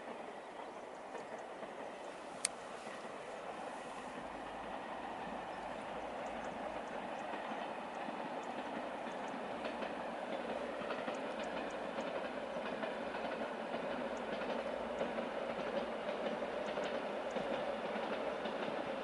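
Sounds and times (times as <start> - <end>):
railcar rumbling: 0.0 - 19.0.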